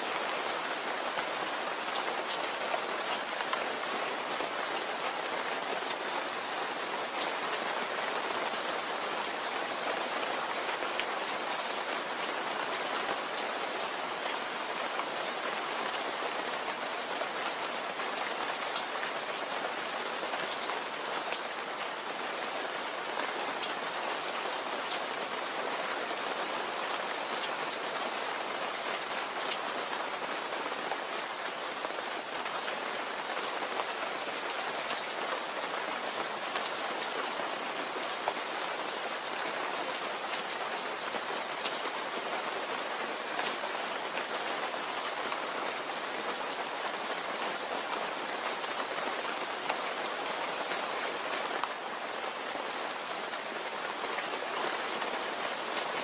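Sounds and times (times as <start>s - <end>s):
steady rain with ticking drops: 0.0s - 56.0s.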